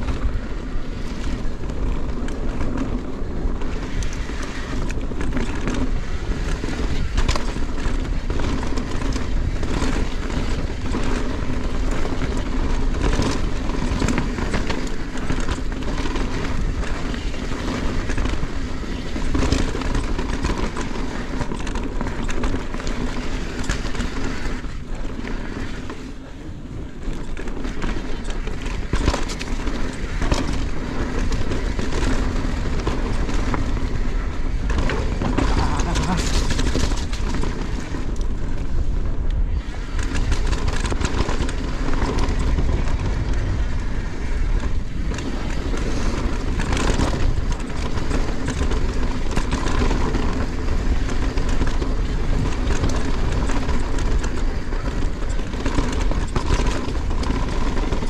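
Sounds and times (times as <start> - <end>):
bike clacking and rattling: 0.0 - 58.0
knobby tyres roaring on dirt: 0.0 - 58.0.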